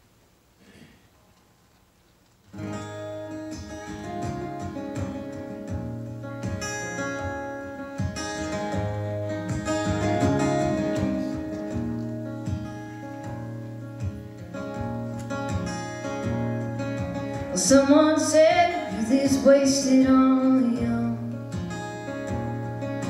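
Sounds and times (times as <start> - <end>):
acoustic guitar strumming chords: 2.5 - 23.0.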